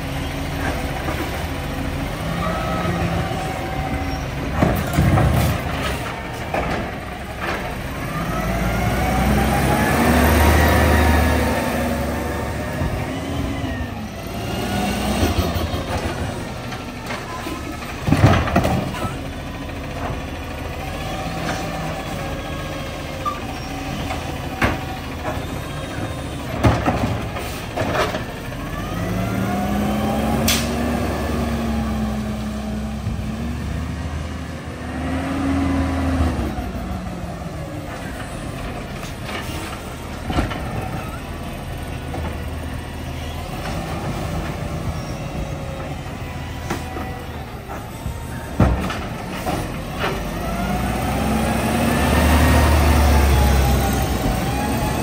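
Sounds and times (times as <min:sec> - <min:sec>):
garbage truck engine revving: 0:00.0 - 0:55.0.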